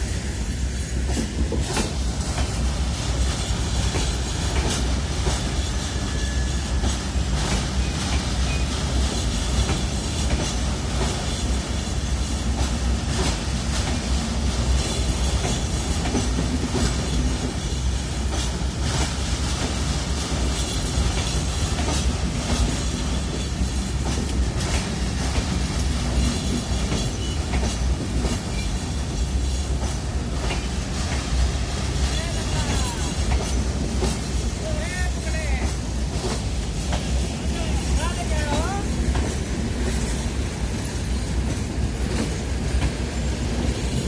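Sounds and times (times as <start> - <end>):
train rumble: 0.0 - 44.0
train wheels clacking over joints: 0.7 - 44.0.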